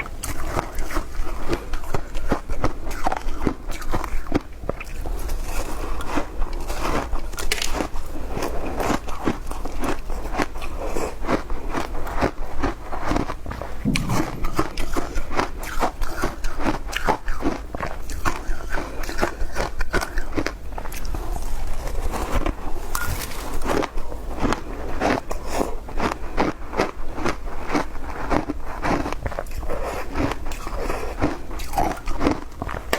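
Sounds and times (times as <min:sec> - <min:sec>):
ice being chewed: 0:00.0 - 0:32.9.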